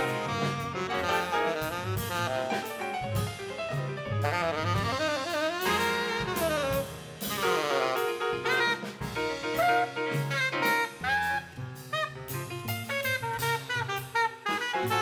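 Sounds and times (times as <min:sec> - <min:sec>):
double bass: 0:00.0 - 0:15.0
drum kit with cymbals: 0:00.0 - 0:15.0
piano: 0:00.0 - 0:15.0
tenor saxophone: 0:00.0 - 0:15.0.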